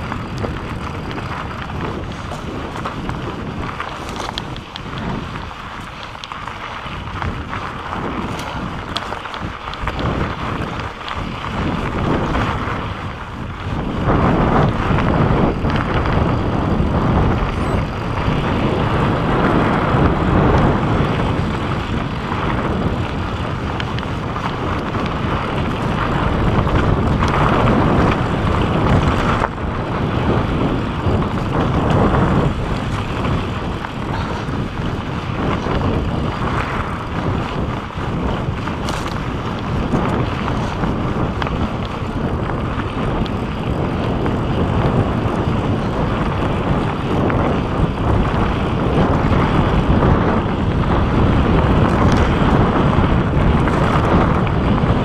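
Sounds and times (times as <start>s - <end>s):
bike tyres rattling on rough ground: 0.0s - 55.0s
wind rushing over microphone: 0.0s - 55.0s.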